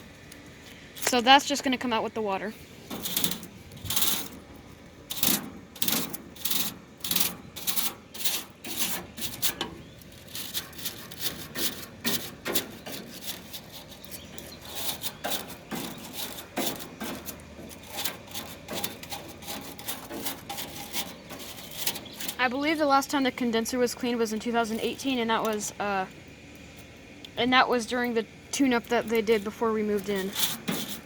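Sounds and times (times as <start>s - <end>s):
brush scrubbing metal fins: 1.0s - 25.8s, 27.4s - 31.0s.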